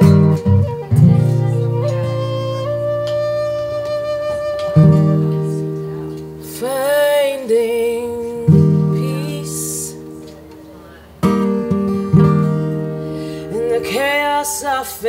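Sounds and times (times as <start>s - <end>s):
acoustic guitar chord ringing: 0.0s - 3.0s, 4.7s - 15.0s
woman singing: 0.0s - 10.5s, 13.4s - 15.0s.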